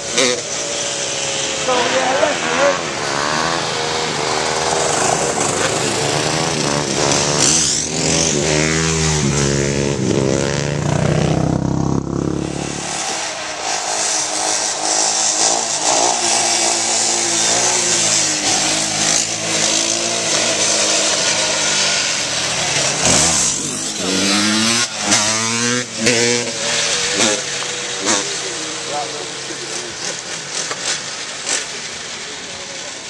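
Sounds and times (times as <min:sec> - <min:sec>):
dirt bike and atv engines revving: 0:00.0 - 0:33.0.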